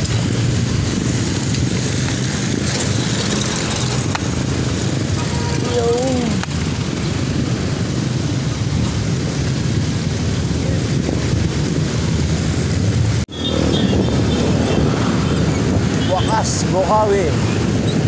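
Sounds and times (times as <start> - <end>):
road traffic noise: 0.0 - 18.0
rushing air: 0.0 - 18.0.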